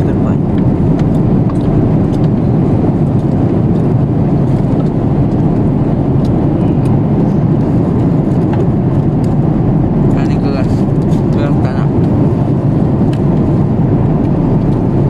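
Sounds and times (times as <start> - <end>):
airliner cabin roar: 0.0 - 15.0.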